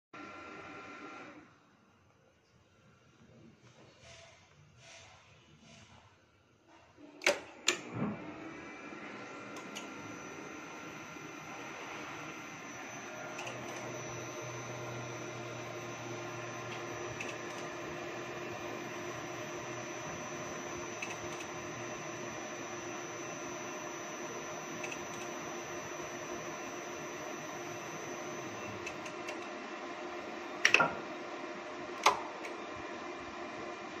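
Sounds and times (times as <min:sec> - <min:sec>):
elevator controller hum and whine: 0:00.2 - 0:02.0, 0:07.0 - 0:34.0.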